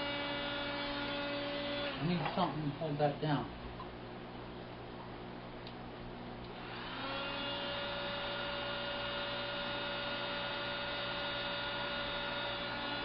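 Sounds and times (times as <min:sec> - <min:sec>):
heat gun fan humming and whining: 0:00.0 - 0:04.4, 0:05.3 - 0:13.0.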